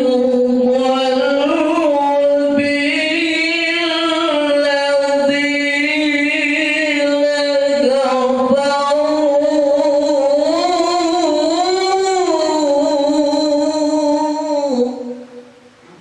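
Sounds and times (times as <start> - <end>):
man chanting melodically: 0.0 - 15.4.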